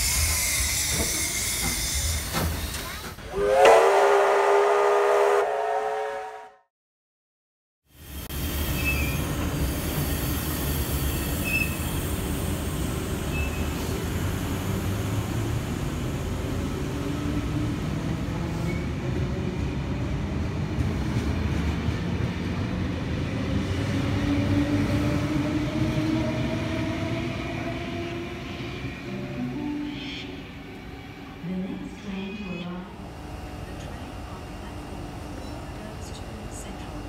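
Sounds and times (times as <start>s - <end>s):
train rumbling on rails: 0.0s - 6.3s, 8.0s - 37.0s.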